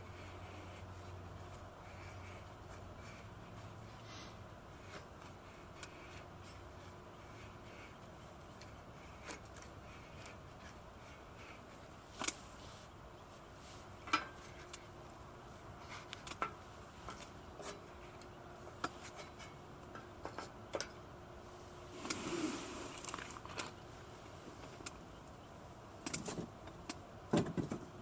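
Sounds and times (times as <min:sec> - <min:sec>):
faint steady background noise: 0:00.0 - 0:28.0.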